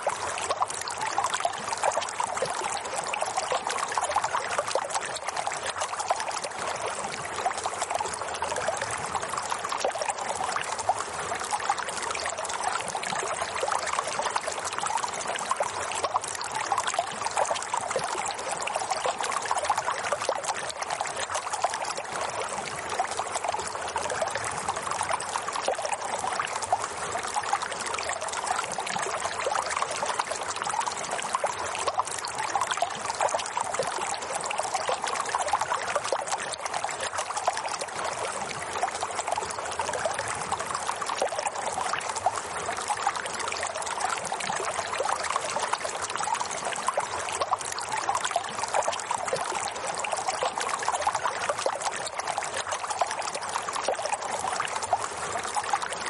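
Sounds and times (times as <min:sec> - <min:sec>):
running water trickling: 0:00.0 - 0:56.0.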